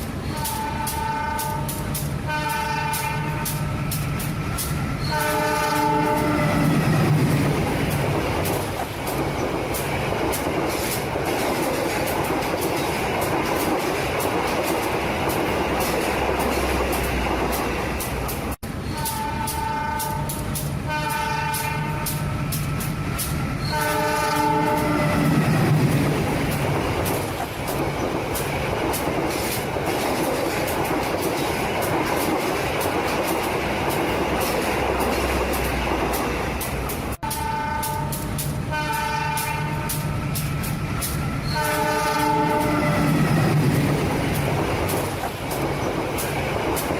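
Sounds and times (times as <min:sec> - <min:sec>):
train rolling rumble: 0:00.0 - 0:46.9
train wheels clicking over rails: 0:00.0 - 0:46.9.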